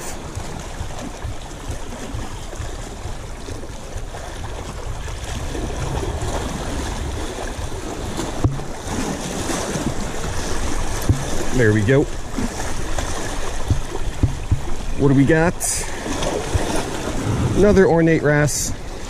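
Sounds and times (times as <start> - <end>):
surf on rocky shore: 0.0 - 19.0
wind buffeting microphone: 0.0 - 19.0.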